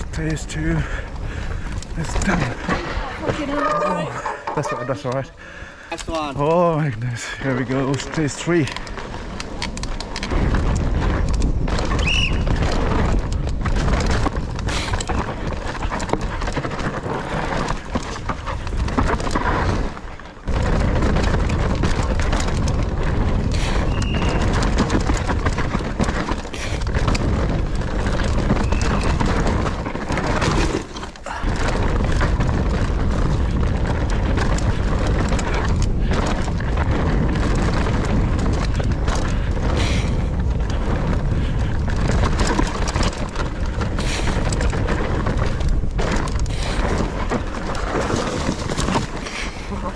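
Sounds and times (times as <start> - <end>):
bike rattling and knocking: 0.0 - 49.9
bike tyres crunching over dirt: 0.0 - 49.9
wind buffeting microphone: 0.0 - 49.9.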